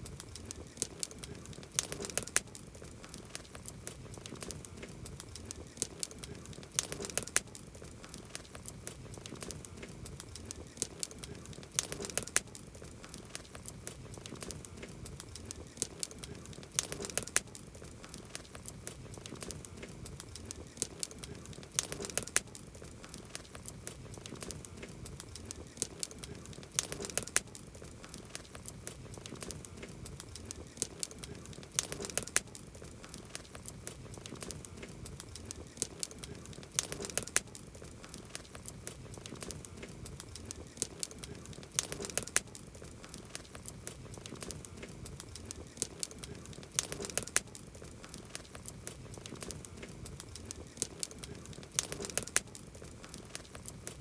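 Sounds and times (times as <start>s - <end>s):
campfire crackling: 0.0s - 54.0s
low steady fire hiss: 0.0s - 54.0s.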